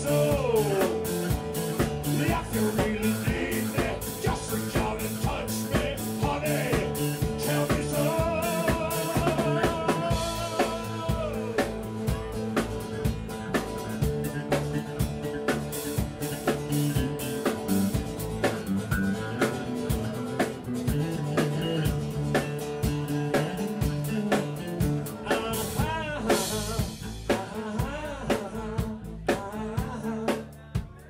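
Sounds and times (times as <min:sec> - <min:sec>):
strummed acoustic guitar: 0:00.0 - 0:30.1
drum kit beat: 0:00.0 - 0:31.0.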